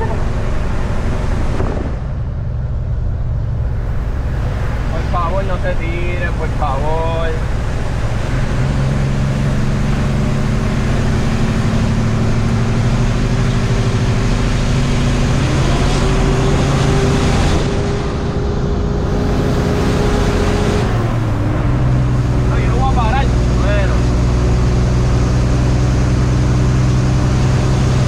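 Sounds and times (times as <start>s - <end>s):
road noise: 0.0s - 28.0s
truck diesel engine pulling: 0.0s - 28.0s.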